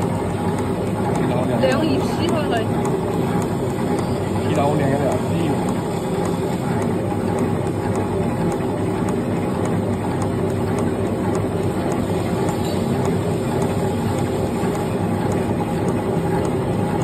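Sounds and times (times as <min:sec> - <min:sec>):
machine humming with fast ticking: 0:00.0 - 0:17.0.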